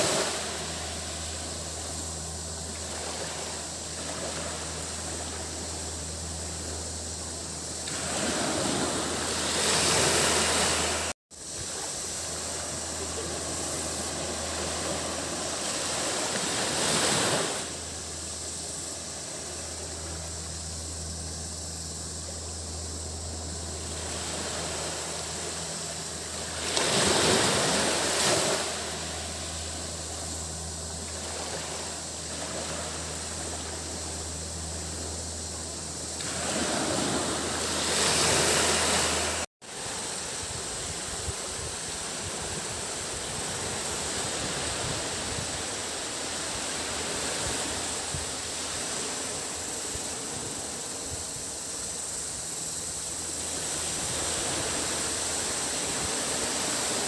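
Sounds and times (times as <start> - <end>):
sea waves washing onto beach: 0.0 - 20.3, 23.6 - 57.0
high-pitched cicada drone: 0.0 - 57.0
steady low hum: 0.0 - 57.0.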